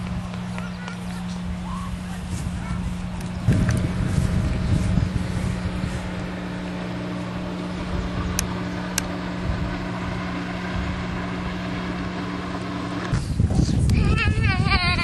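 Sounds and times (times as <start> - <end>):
speedboat engine running: 0.0 - 15.0.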